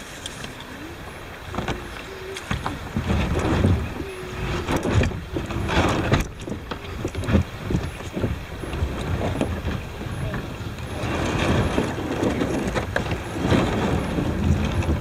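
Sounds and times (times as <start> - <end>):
paddle splashing in water: 0.0 - 15.0
wind buffeting microphone: 0.6 - 15.0
paddle knocking on kayak hull: 1.5 - 15.0.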